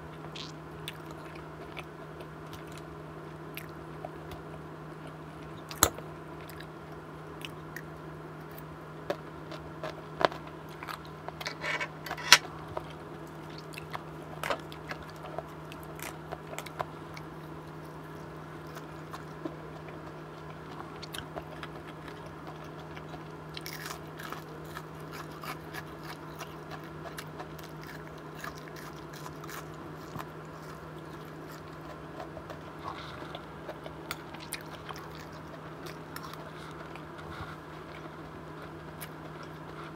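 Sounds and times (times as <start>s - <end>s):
chewing crunchy lettuce: 0.0s - 39.9s.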